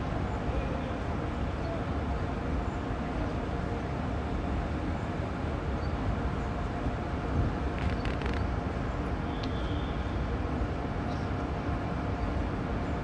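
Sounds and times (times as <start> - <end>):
electric train rumble and hum: 0.0 - 13.0.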